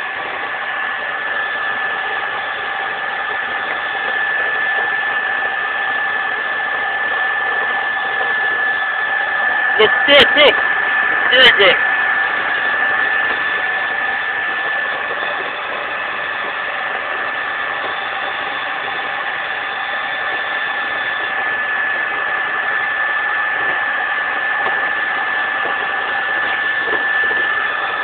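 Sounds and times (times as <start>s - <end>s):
carpet cleaning machine running: 0.0s - 28.0s.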